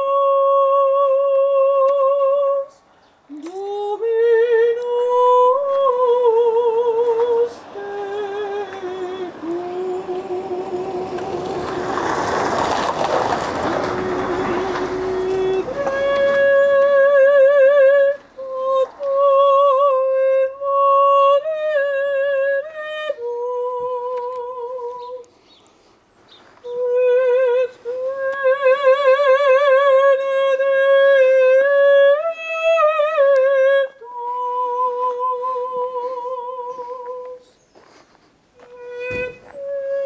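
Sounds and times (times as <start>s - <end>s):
woman singing unaccompanied: 0.0s - 12.0s, 13.5s - 25.3s, 26.6s - 37.6s, 38.6s - 40.0s.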